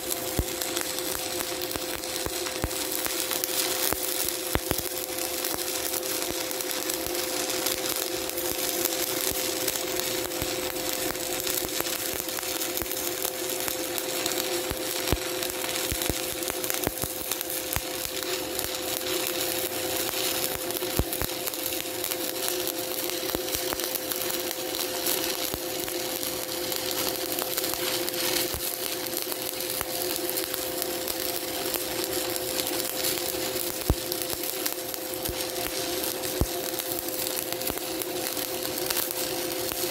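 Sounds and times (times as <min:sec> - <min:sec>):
steady hum: 0:00.0 - 0:39.9
welding arc crackling: 0:00.0 - 0:39.9.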